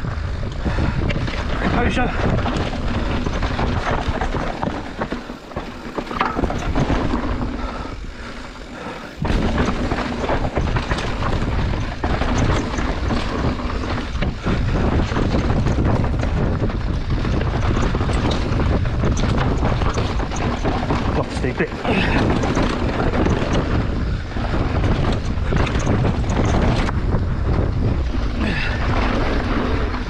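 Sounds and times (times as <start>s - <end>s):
bike tyres rattling over ground: 0.0s - 30.0s
wind buffeting microphone: 0.0s - 30.0s.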